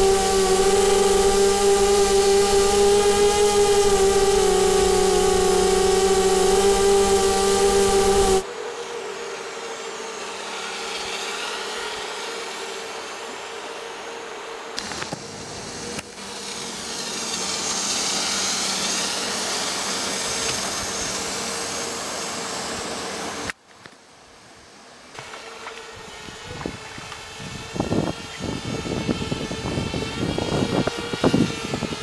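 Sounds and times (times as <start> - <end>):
quadcopter motors whining: 0.0 - 23.6, 25.2 - 32.0.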